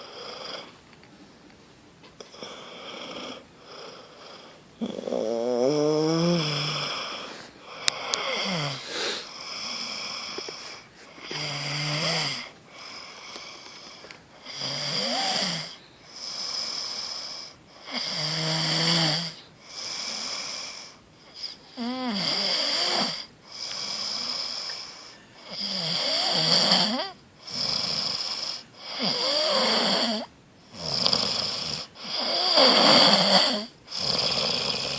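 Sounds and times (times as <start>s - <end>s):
person snoring loudly: 2.3s - 10.5s, 11.2s - 12.9s, 14.4s - 24.6s, 25.5s - 34.9s.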